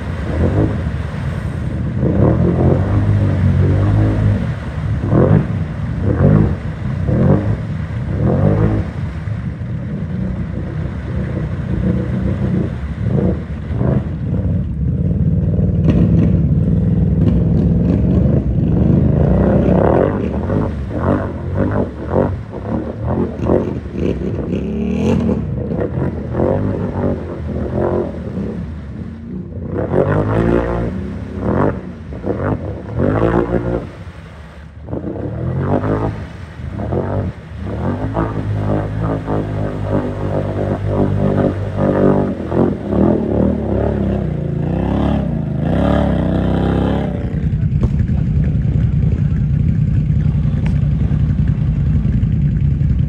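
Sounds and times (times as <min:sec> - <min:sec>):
atv engine revving: 0:00.0 - 0:53.0
water and mud splashing: 0:00.0 - 0:53.0.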